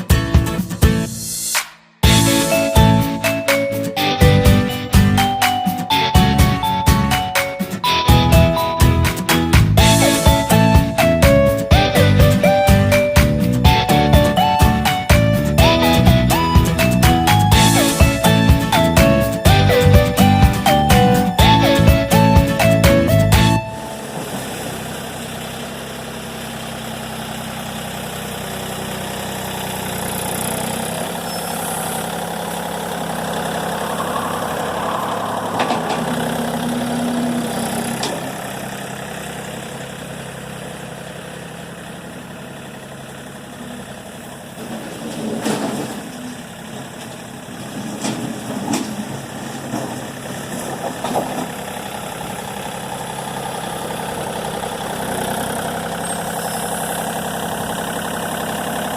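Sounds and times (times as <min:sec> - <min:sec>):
engine idling: 0:02.0 - 0:58.9.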